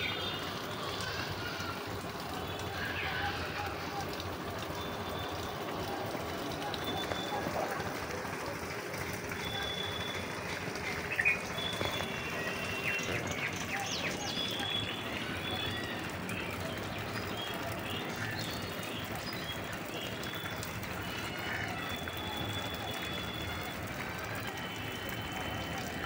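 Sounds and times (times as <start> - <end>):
birds chirping: 0.0 - 7.9, 9.2 - 23.8.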